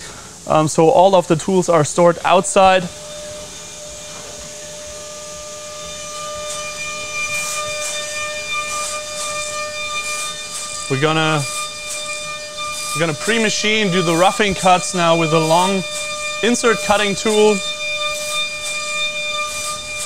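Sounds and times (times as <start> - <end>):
high-pitched spindle whine: 0.0 - 20.0.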